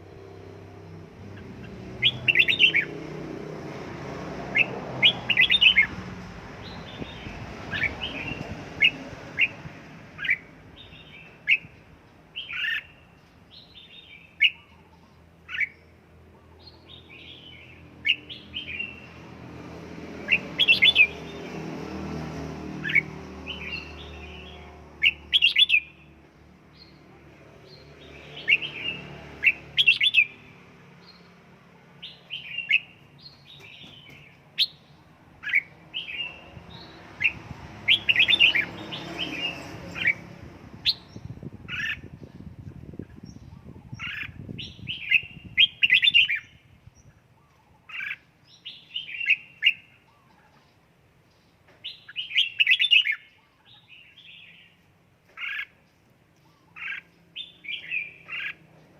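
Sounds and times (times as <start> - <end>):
bird chirping: 0.1 - 3.1, 4.5 - 6.0, 6.6 - 19.2, 20.1 - 21.7, 22.8 - 58.9.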